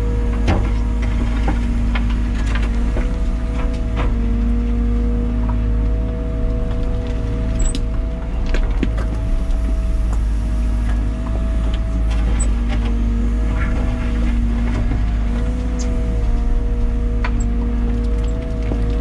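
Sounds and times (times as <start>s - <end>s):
diesel engine under load: 0.0s - 19.0s.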